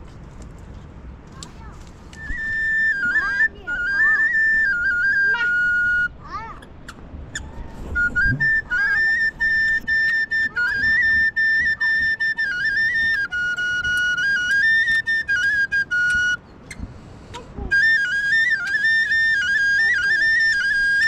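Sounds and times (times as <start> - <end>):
flute melody: 2.1 - 6.2, 7.3 - 21.0.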